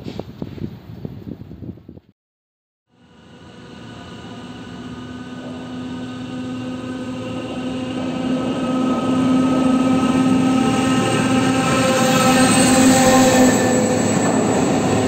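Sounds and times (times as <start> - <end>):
freight train locomotive hum: 2.9 - 15.0.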